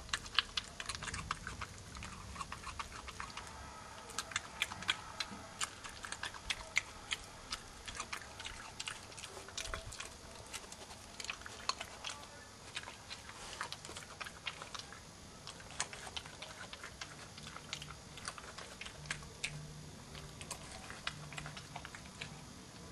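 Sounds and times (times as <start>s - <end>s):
animal crunching peanuts: 0.0s - 22.9s.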